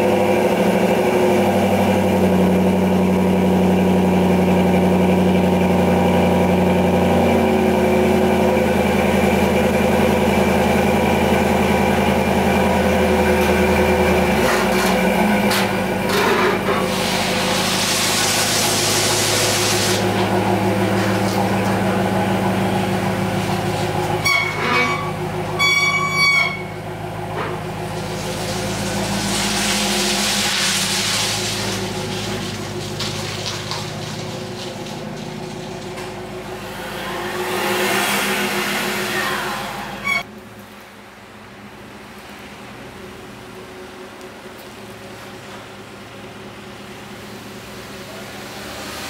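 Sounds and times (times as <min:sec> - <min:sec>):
pickup engine idling: 0:00.0 - 0:30.2, 0:30.8 - 0:48.5.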